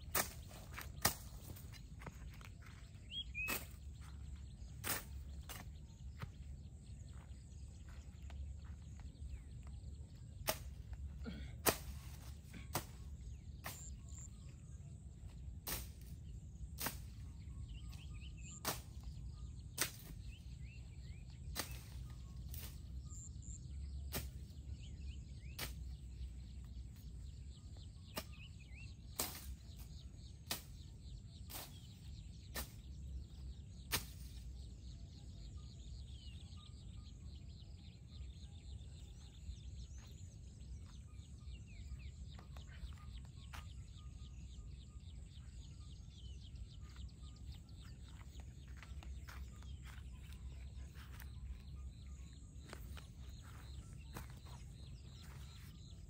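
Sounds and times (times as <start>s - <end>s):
faint bird chirps: 0.0s - 56.0s
steady low rumble: 0.0s - 56.0s.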